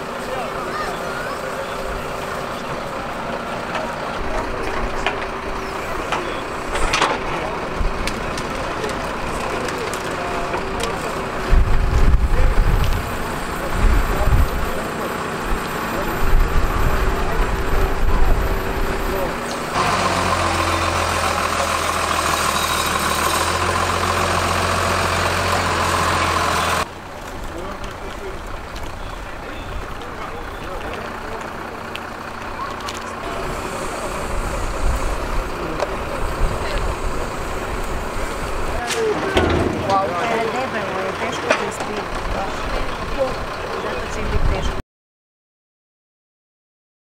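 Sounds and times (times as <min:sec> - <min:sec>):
chainsaw idling: 0:00.0 - 0:11.6, 0:12.9 - 0:44.2
truck engine running: 0:00.0 - 0:44.8.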